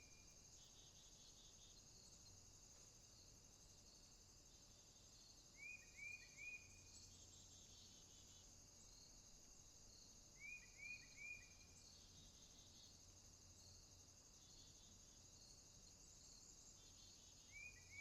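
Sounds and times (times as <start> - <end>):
crickets and insects chorus: 0.0 - 18.0.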